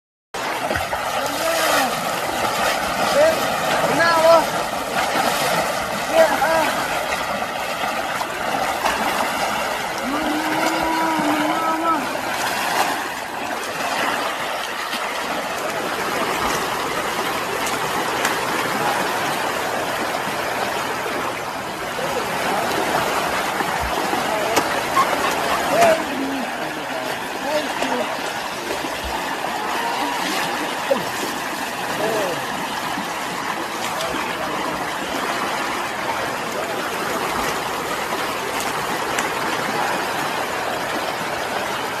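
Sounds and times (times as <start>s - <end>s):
elephant wading through water: 0.4s - 42.0s
river rushing: 0.4s - 42.0s.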